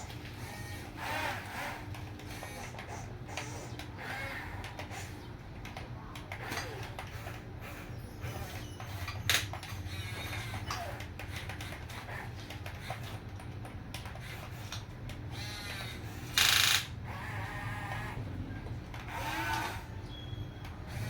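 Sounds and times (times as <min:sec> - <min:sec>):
small electric motors whirring: 0:00.0 - 0:05.2, 0:06.4 - 0:13.3, 0:14.0 - 0:18.2, 0:19.0 - 0:21.0.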